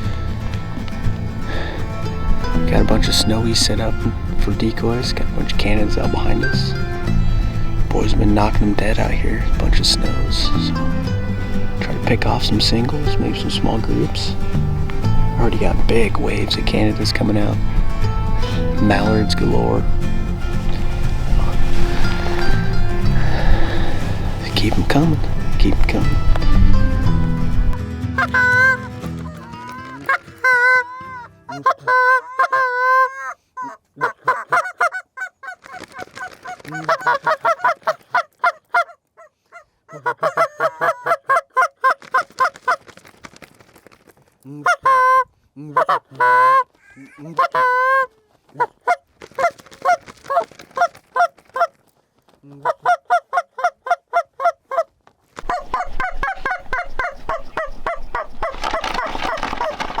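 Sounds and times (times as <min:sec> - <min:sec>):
geese yelping honks: 0:00.0 - 0:42.8, 0:44.6 - 0:51.7, 0:52.6 - 1:00.0.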